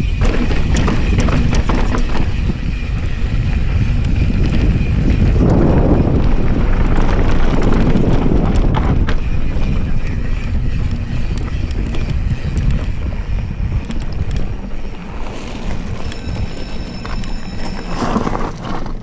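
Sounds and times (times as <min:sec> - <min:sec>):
tyres rolling over dirt and gravel: 0:00.0 - 0:19.0
wind buffeting microphone: 0:00.0 - 0:19.0.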